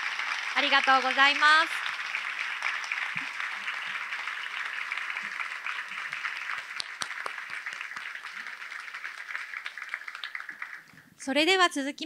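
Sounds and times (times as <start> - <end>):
audience applauding: 0.0 - 11.1
sharp individual claps: 0.0 - 11.1.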